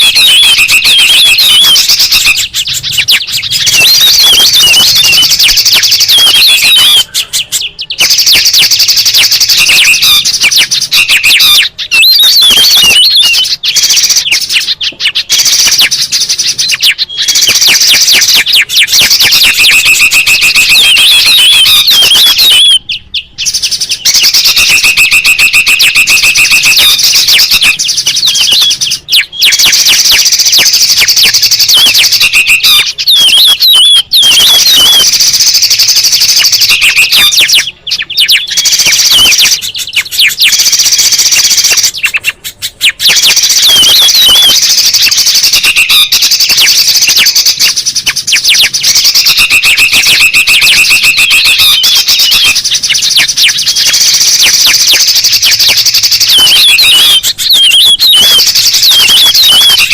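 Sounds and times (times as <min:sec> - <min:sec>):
birds chattering and trilling: 0:00.0 - 0:59.9.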